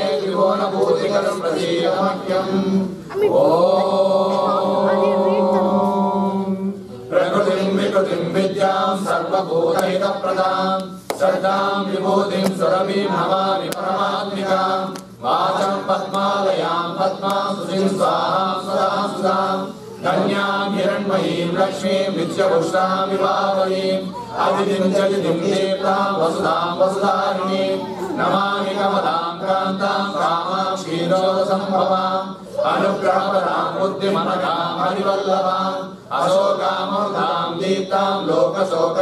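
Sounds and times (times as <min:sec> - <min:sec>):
group chanting a hymn: 0:00.0 - 0:39.0.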